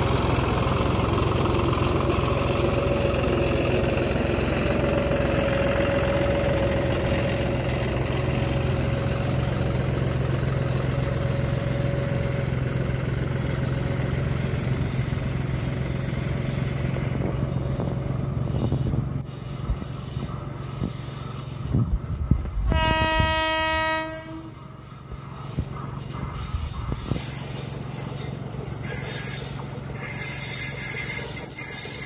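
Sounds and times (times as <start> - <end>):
heavy machinery droning: 0.0 - 32.0.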